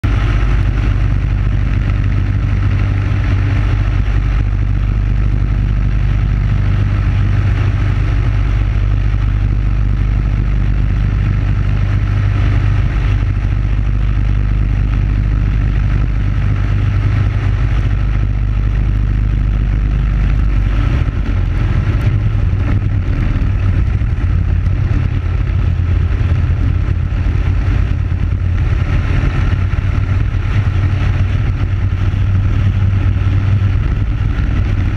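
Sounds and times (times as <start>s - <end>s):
kart engine running hard: 0.0s - 34.9s
rushing wind: 0.0s - 34.9s.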